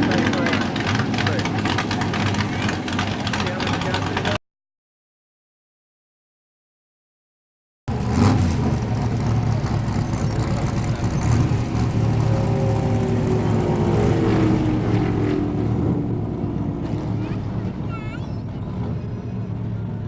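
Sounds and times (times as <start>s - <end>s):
race car engine drone: 0.0s - 4.4s, 7.9s - 20.0s.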